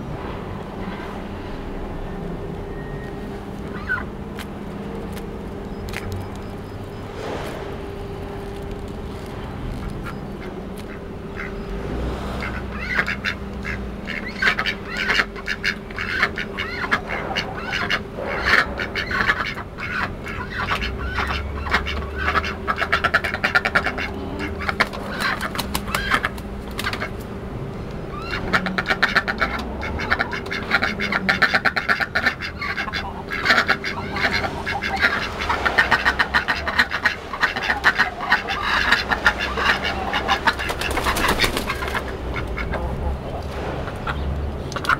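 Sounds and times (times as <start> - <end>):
ducks quacking: 3.6 - 8.5, 9.2 - 44.9.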